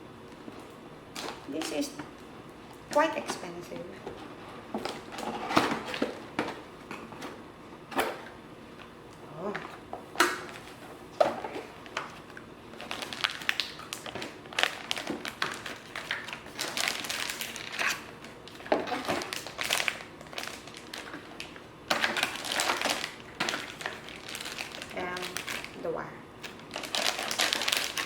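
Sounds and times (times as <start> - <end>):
packaging crinkling and rustling: 4.0 - 8.9, 9.7 - 28.0.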